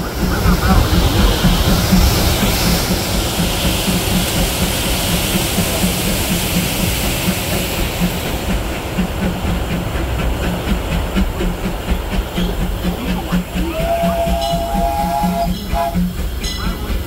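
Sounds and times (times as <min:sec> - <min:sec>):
steam hiss: 0:00.0 - 0:17.0
train wheels rumbling on track: 0:00.0 - 0:17.0.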